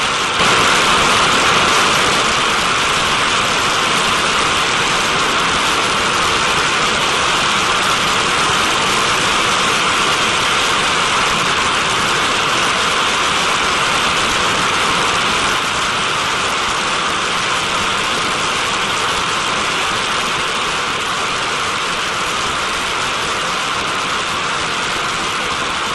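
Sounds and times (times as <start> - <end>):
jet engine rushing hiss: 0.0 - 25.9.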